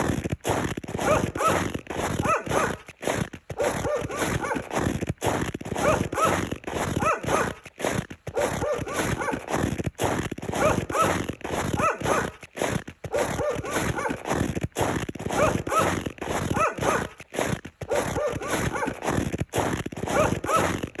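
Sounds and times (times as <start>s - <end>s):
footsteps crunching in snow: 0.0s - 21.0s.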